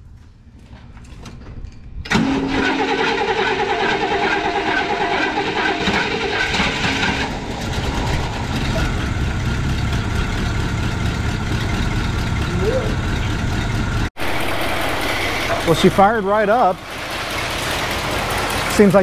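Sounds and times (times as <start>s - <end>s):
car engine starting and idling: 2.1s - 19.0s
engine whine: 2.1s - 19.0s.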